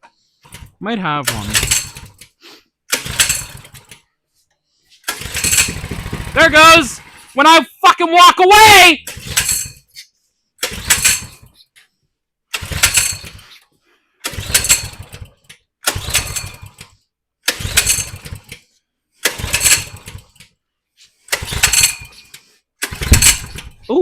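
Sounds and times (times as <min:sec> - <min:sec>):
engine cranking and sputtering: 0:00.0 - 0:04.2, 0:04.9 - 0:07.4, 0:08.7 - 0:10.0, 0:10.6 - 0:11.8, 0:12.5 - 0:13.6, 0:14.2 - 0:24.0.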